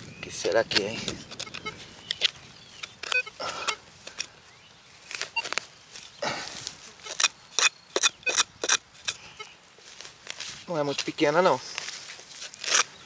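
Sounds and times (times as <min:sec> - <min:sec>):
hand tool scraping in soil: 0:00.4 - 0:04.4, 0:05.0 - 0:13.0.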